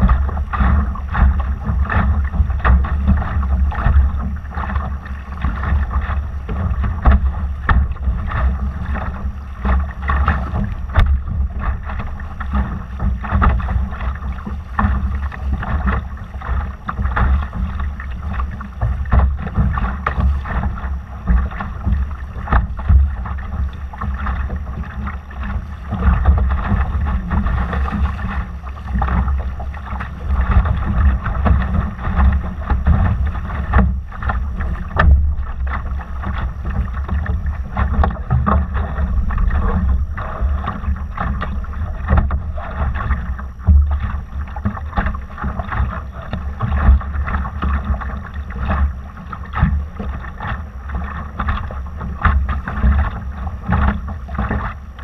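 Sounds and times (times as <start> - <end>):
water splashing along hull: 0.0 - 55.0
wind buffeting microphone: 0.0 - 55.0.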